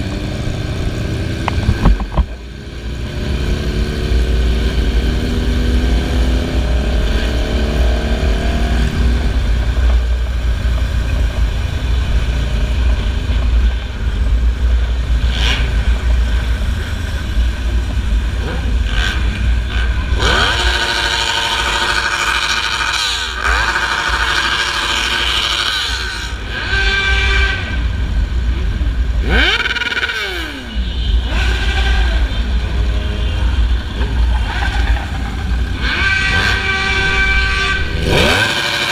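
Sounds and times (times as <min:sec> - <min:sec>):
motorcycle engines rumbling: 0:00.0 - 0:38.9.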